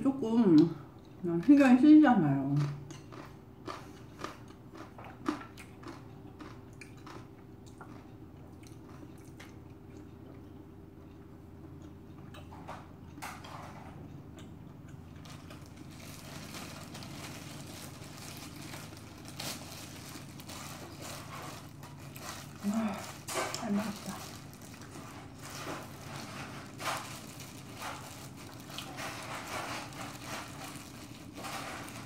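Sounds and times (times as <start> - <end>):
crunchy chewing: 2.6 - 32.0.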